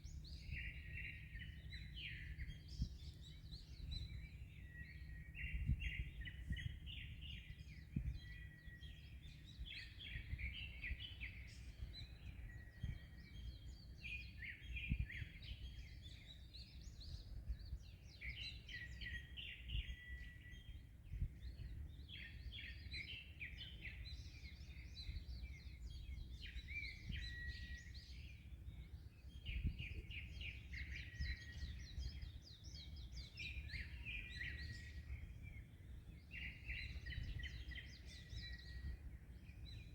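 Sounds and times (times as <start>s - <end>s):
songbirds chirping and whistling: 0.0s - 39.9s
wind: 0.0s - 39.9s.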